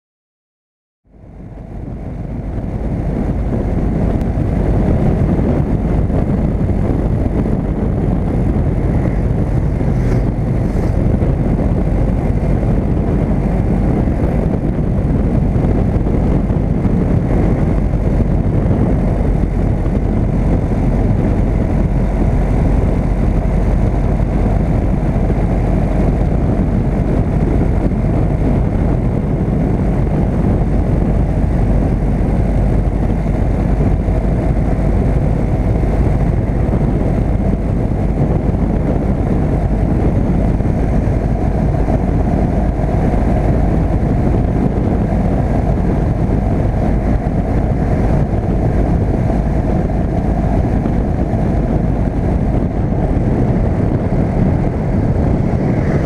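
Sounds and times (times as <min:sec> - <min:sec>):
vehicle driving rumble: 0:01.1 - 0:56.0.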